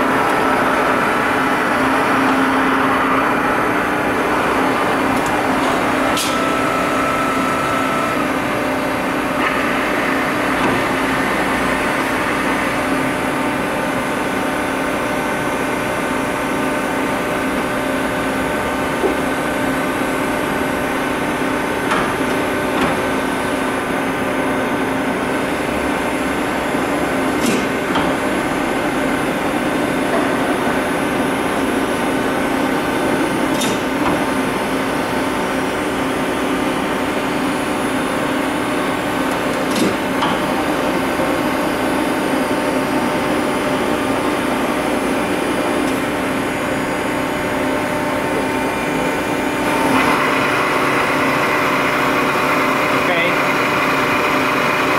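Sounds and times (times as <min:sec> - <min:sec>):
industrial machinery humming: 0:00.0 - 0:54.9.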